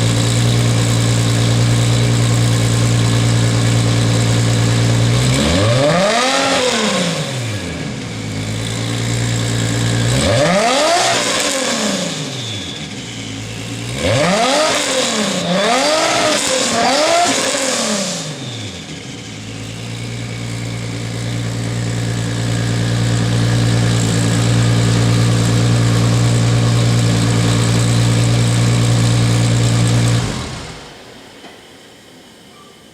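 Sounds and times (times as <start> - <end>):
car engine idling and revving: 0.0 - 31.1.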